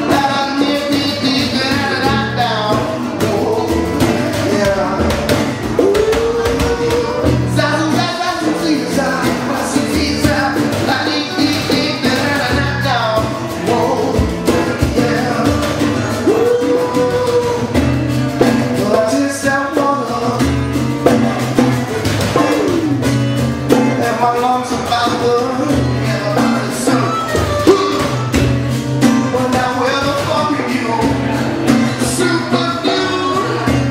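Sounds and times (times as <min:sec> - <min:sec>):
hand drum beat: 0:00.0 - 0:33.9
man singing: 0:00.0 - 0:33.9
strummed acoustic guitars: 0:00.0 - 0:33.9.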